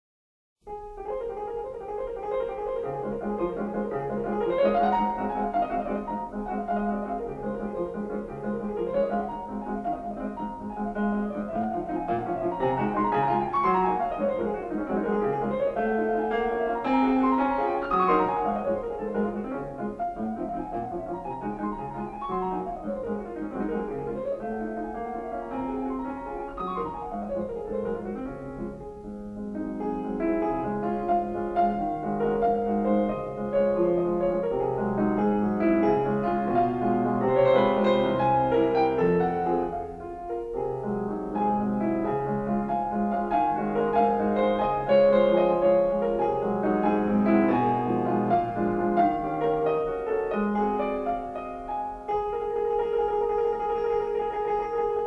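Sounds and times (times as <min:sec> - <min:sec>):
piano music: 0:00.6 - 0:55.0.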